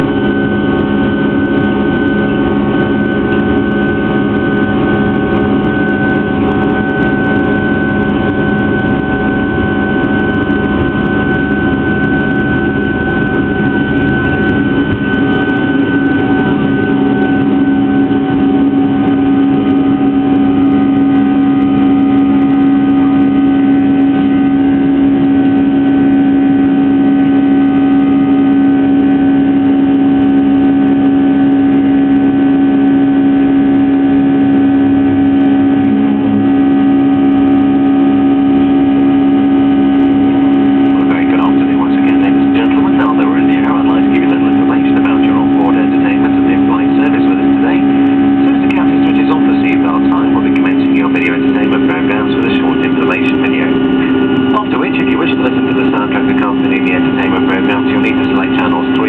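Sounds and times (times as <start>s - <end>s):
jet engine noise in cabin: 0.0s - 59.0s.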